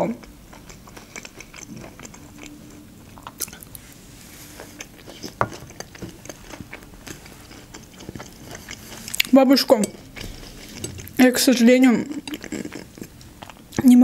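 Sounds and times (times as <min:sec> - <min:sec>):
chewing sweet corn: 0:00.0 - 0:14.0.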